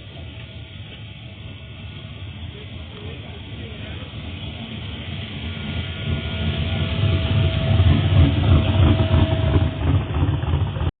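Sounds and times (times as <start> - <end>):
car engine rumbling driving past: 0.0 - 10.9
faint steady whine: 0.0 - 10.9.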